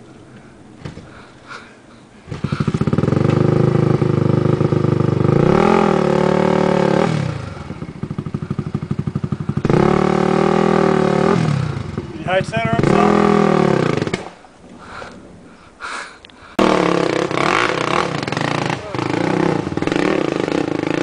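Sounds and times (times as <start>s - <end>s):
atv engine revving: 2.2s - 15.1s, 16.5s - 21.0s.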